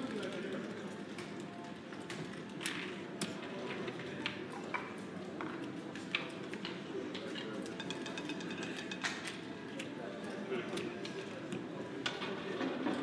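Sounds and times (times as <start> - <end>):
murmur of room chatter: 0.0 - 13.0.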